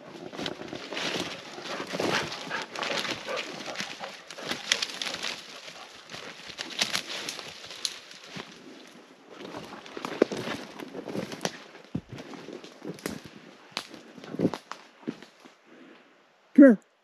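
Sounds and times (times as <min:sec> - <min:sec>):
footsteps in dry leaves: 0:00.0 - 0:15.4.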